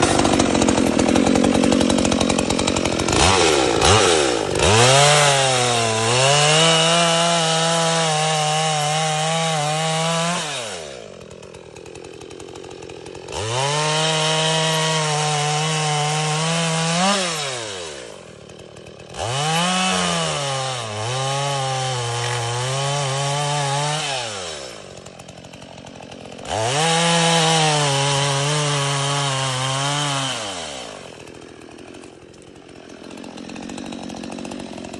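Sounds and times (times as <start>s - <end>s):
chainsaw revving and idling: 0.0s - 34.9s.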